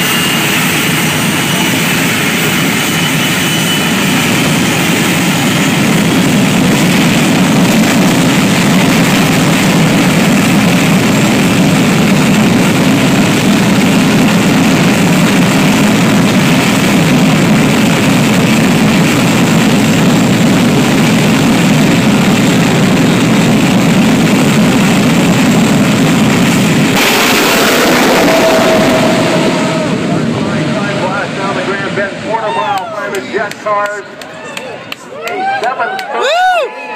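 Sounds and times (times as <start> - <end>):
jet engine running: 0.0 - 34.3.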